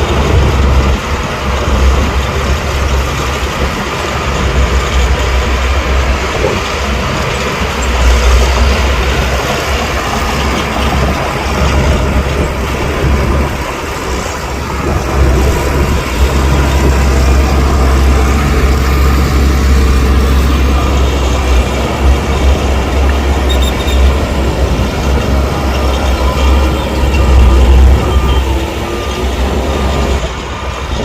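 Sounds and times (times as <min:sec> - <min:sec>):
diesel engine rumble: 0:00.0 - 0:31.0
machinery clatter: 0:00.0 - 0:31.0.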